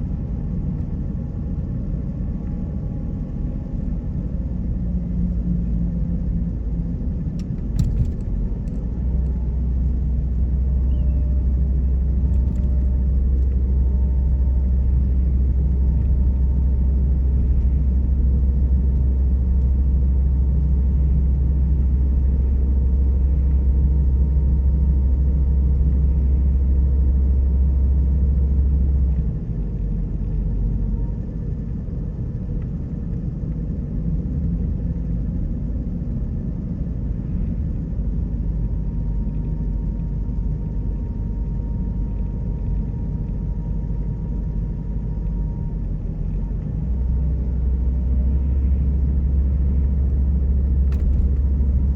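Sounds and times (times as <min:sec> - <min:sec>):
car engine and tyres rumbling: 0:00.0 - 0:51.9.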